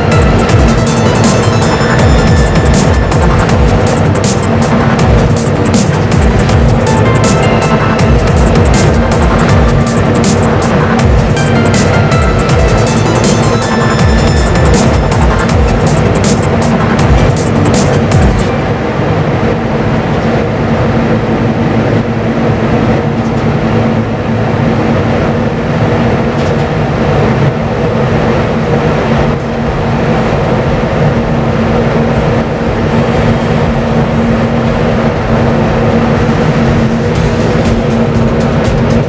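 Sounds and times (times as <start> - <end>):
ship machinery drone: 0.0 - 39.0.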